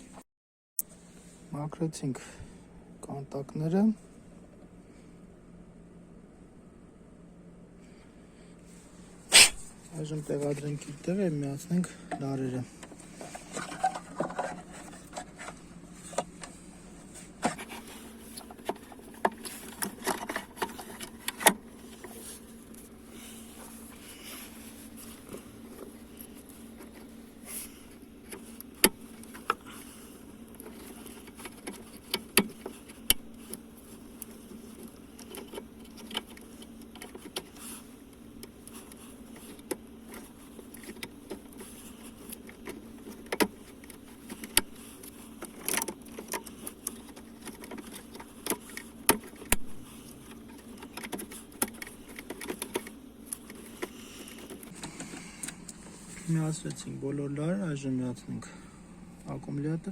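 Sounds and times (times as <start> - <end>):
steady low hum: 0.8 - 59.9.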